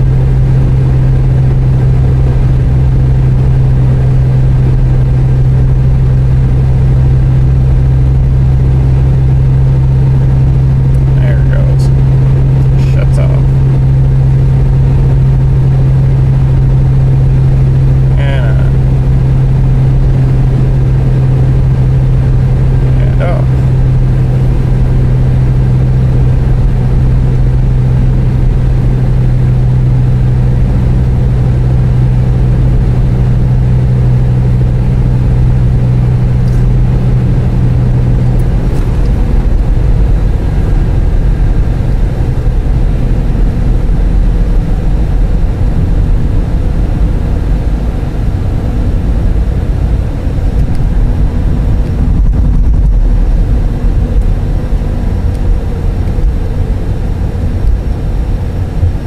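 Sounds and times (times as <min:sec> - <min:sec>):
car engine idling: 0:00.0 - 0:59.0
low hum: 0:00.0 - 0:59.0.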